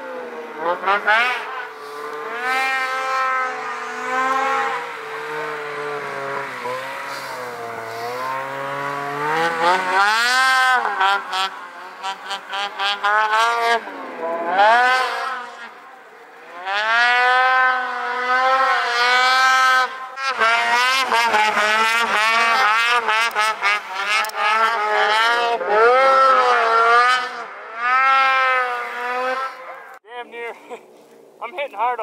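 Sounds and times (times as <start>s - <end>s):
snowmobile engine revving: 0.0s - 30.8s.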